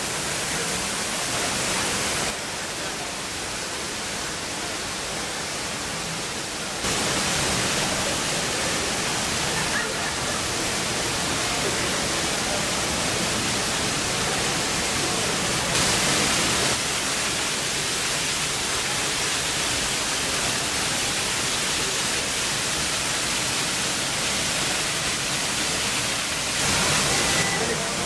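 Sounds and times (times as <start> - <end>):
waterfall splashing into pool: 0.0 - 28.0.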